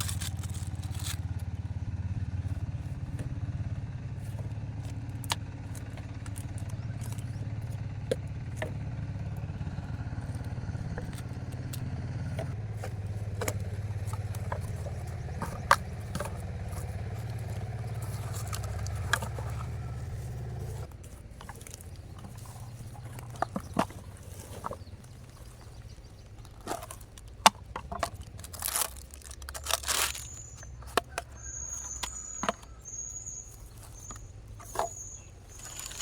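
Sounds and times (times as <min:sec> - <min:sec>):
clicks and rattles: 0:00.0 - 0:36.0
small engine running: 0:00.0 - 0:36.0.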